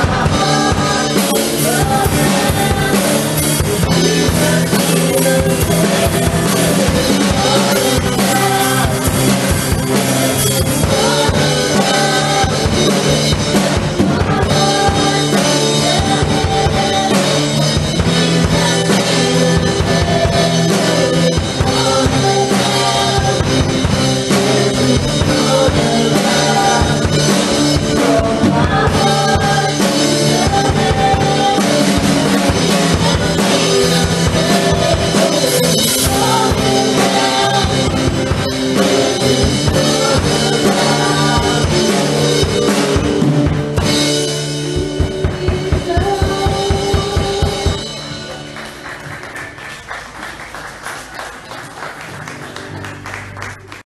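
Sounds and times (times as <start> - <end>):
drum kit: 0.0 - 53.8
praise band playing worship song: 0.0 - 53.8.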